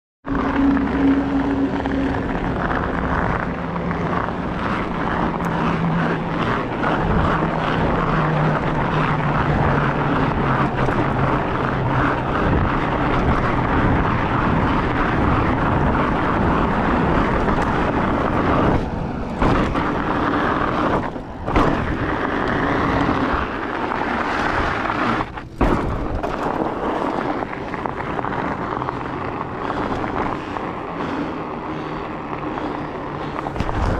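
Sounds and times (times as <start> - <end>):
bike tyres humming on pavement: 0.3 - 33.9
wind noise on microphone: 0.3 - 33.9.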